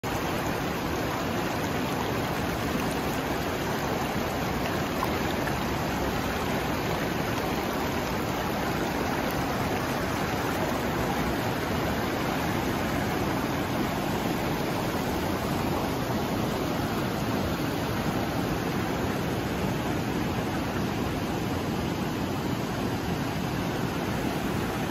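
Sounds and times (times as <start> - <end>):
river rushing over boulders: 0.0 - 24.9.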